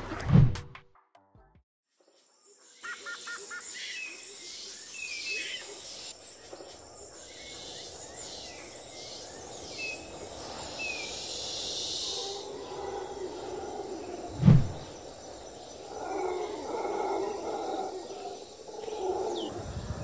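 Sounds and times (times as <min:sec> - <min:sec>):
high-pitched buzzing insect chorus: 0:02.4 - 0:20.0.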